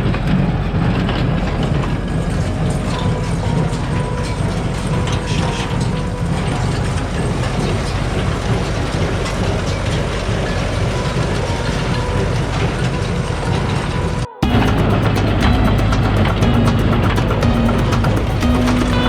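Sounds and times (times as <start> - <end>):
farm machinery engine drone: 0.0 - 19.0.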